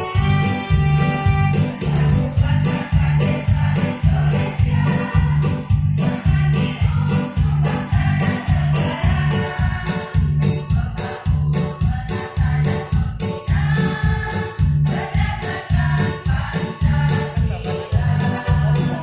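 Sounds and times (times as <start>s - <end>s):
choir singing: 0.0s - 12.8s, 13.5s - 19.0s
music with heavy bass and beat: 0.0s - 19.0s.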